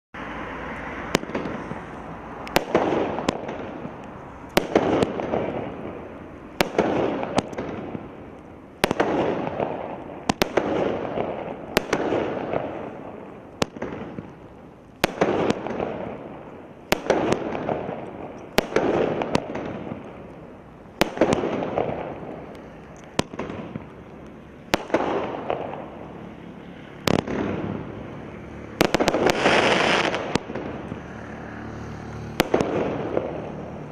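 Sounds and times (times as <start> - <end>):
hissing firework bursts: 0.2 - 33.9
firework bangs: 0.7 - 33.9.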